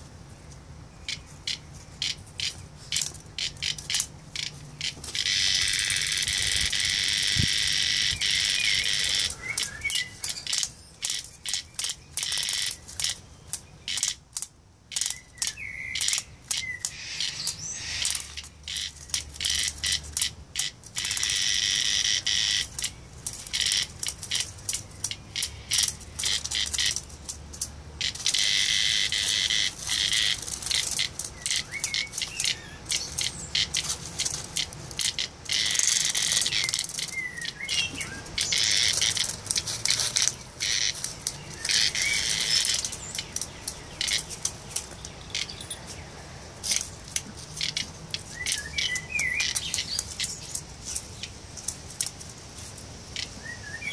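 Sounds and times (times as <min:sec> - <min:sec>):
cicada buzzing: 0:01.1 - 0:13.2, 0:13.9 - 0:14.3, 0:14.9 - 0:27.4, 0:28.0 - 0:45.7, 0:47.6 - 0:51.4.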